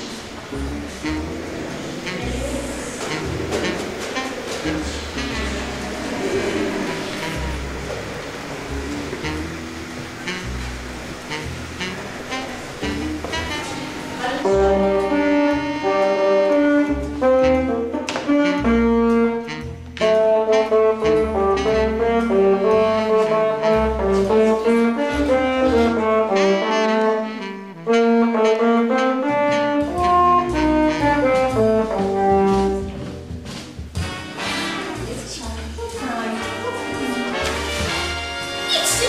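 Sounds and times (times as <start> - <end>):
jazz music with horn melody: 0.0 - 39.0.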